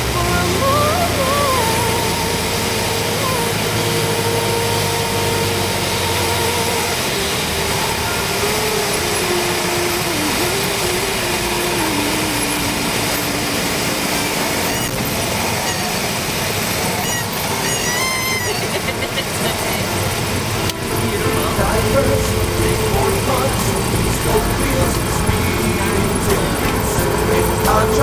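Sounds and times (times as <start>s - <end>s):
aircraft engine idling: 0.0s - 28.0s.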